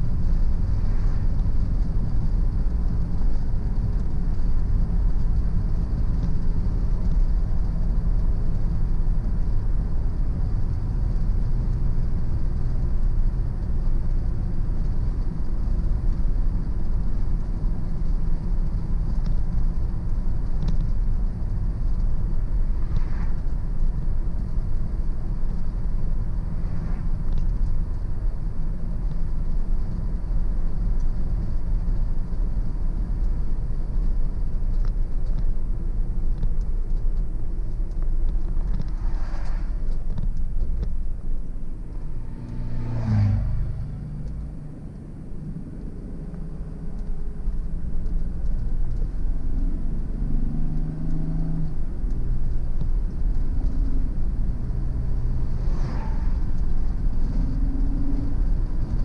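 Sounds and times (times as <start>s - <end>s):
car driving on country road: 0.0s - 59.0s.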